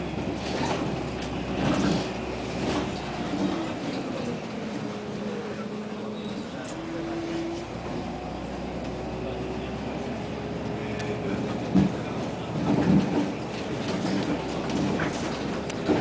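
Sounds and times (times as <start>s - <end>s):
bus engine and rolling rumble: 0.0s - 16.0s.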